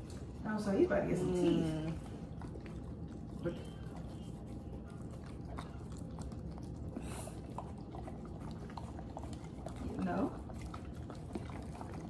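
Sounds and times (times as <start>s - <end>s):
dog licking and smacking: 0.0s - 12.0s
steady low hum: 0.0s - 12.0s.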